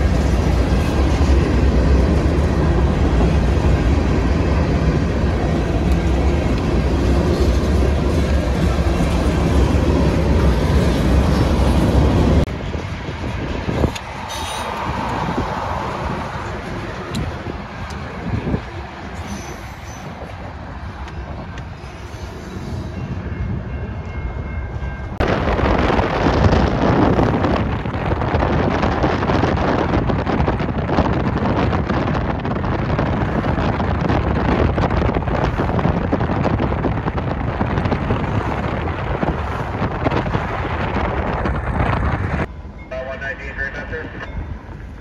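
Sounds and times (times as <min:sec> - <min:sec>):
distant freight train passing: 0:00.0 - 0:45.0
freight train rumbling past: 0:00.0 - 0:45.0.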